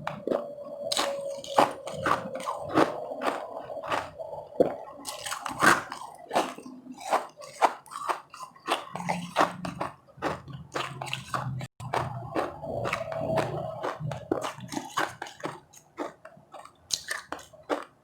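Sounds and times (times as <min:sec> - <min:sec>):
chewing crunchy ice: 0:00.0 - 0:18.0.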